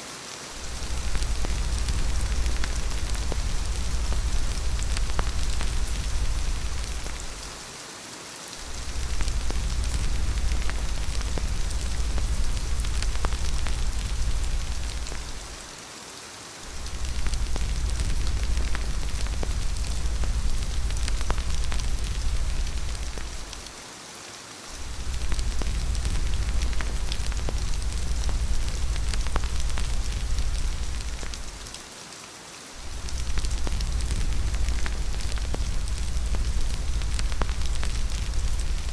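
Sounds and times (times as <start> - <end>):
steady rain falling: 0.0 - 38.9
small crackles: 0.1 - 7.8, 8.5 - 15.8, 16.6 - 23.8, 24.6 - 32.0, 32.7 - 38.9
low rumble of wind: 0.5 - 7.7, 8.6 - 15.7, 16.6 - 23.8, 24.7 - 31.8, 32.8 - 38.9.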